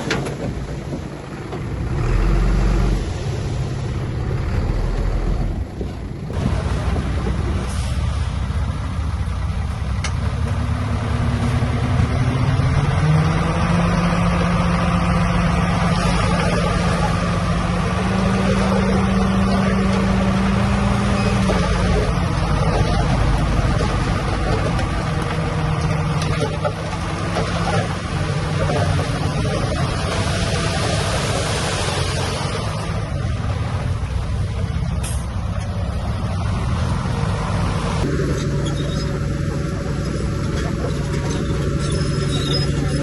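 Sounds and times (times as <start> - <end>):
heavy diesel engine revving: 1.6 - 43.0.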